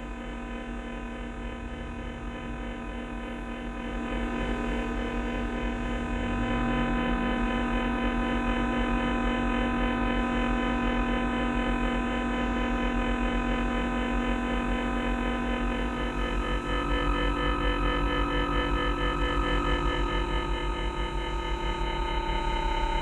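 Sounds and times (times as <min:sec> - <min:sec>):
dense electrical hum: 0:00.0 - 0:23.0.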